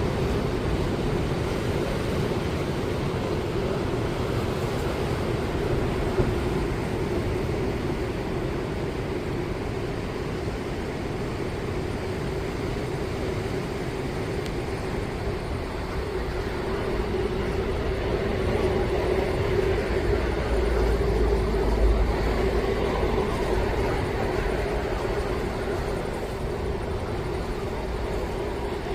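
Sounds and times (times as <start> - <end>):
sea waves breaking: 0.0 - 28.9.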